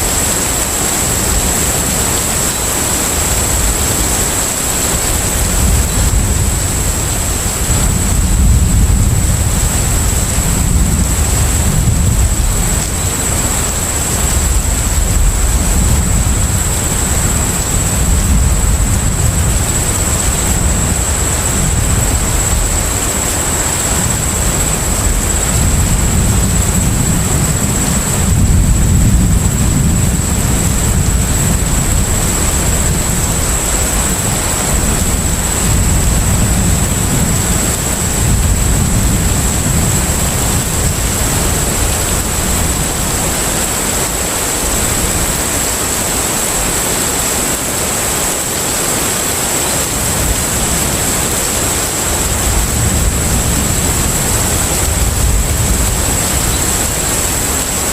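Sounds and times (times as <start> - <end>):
sea and wind noise: 0.0 - 57.9
ship engine rumble: 0.0 - 57.9.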